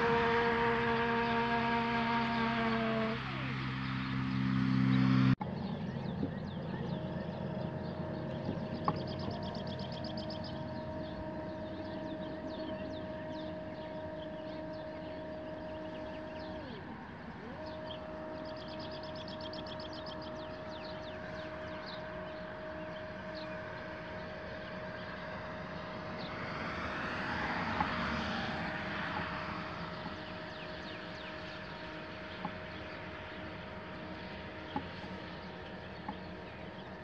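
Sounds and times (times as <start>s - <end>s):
mount motor and gearbox whining: 0.0s - 37.0s.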